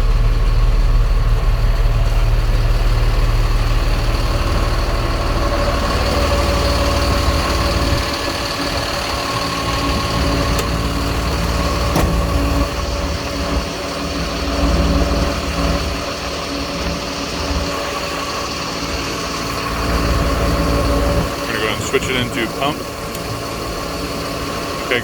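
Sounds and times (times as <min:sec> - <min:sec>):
low rumble: 0:00.0 - 0:24.8
steady whine: 0:00.0 - 0:25.0
truck engine idling: 0:00.0 - 0:25.0.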